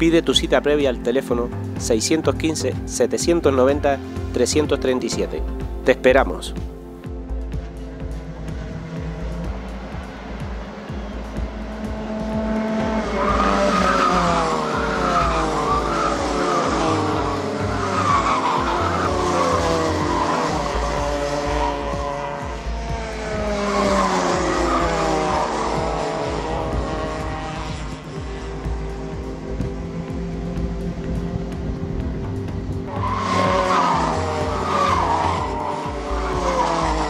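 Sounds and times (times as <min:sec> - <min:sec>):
racing car engine revving: 0:07.3 - 0:37.0.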